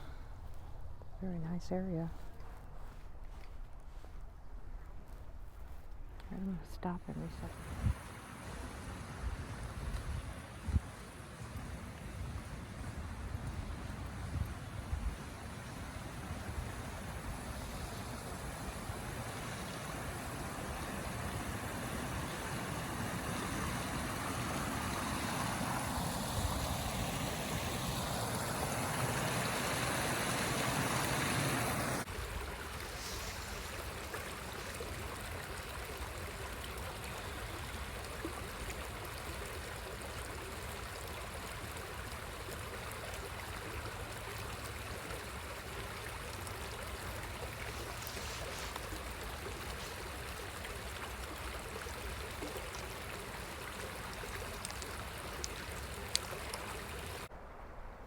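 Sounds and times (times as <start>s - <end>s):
flowing river water: 7.1s - 57.3s.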